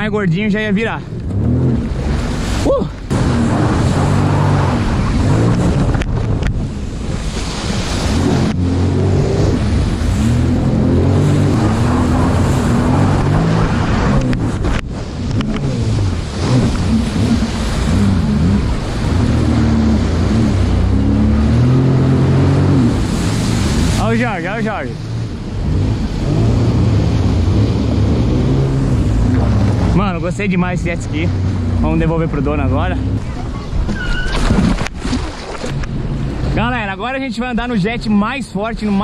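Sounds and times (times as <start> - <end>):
jet ski engine revving: 0.0 - 34.7
wind on microphone: 0.0 - 36.6
water rushing and splashing: 0.0 - 39.0.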